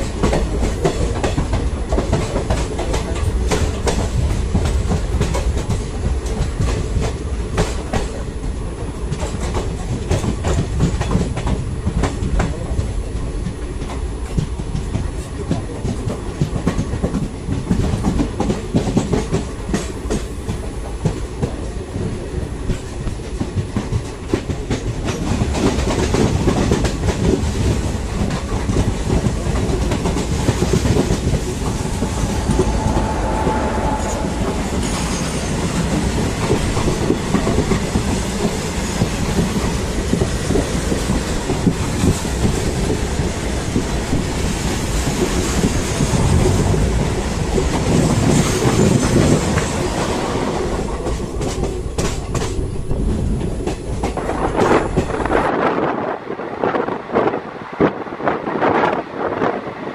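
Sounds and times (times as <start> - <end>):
train coaches rumbling: 0.0 - 59.9.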